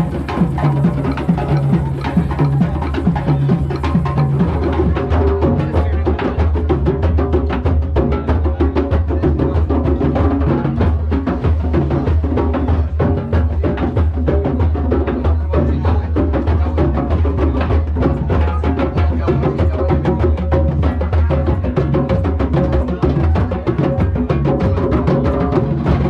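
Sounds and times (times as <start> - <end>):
drum circle beating: 0.0 - 26.0.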